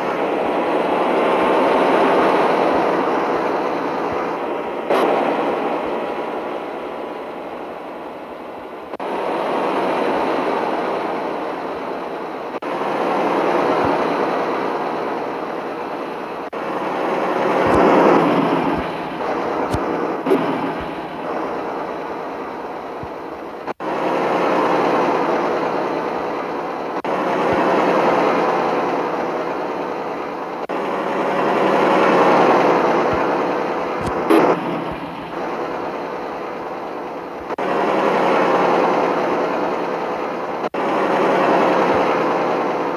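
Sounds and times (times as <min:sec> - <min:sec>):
diesel truck engine running: 0:00.0 - 0:42.9.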